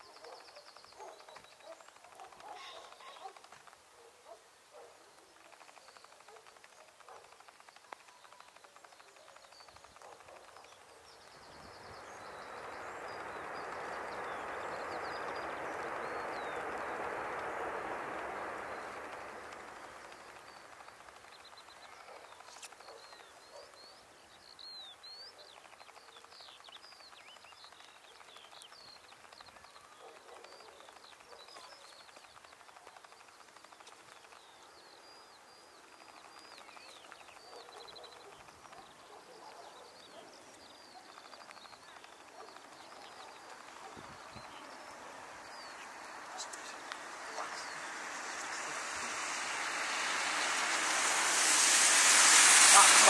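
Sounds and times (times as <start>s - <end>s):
faint background hiss: 0.0s - 53.0s
small birds chirping: 0.0s - 53.0s.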